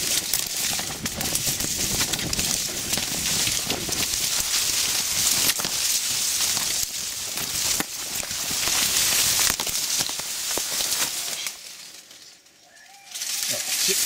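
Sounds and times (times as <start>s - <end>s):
stalks snapping: 0.0s - 11.7s
dry cane leaves rustling: 0.0s - 14.0s.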